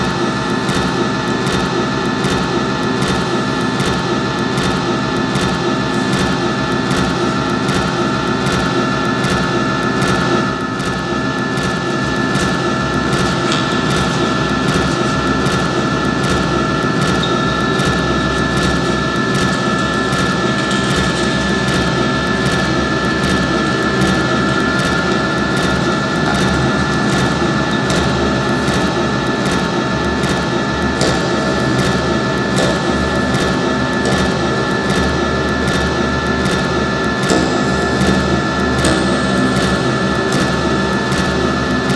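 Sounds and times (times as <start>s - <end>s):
noise drone: 0.0s - 41.9s.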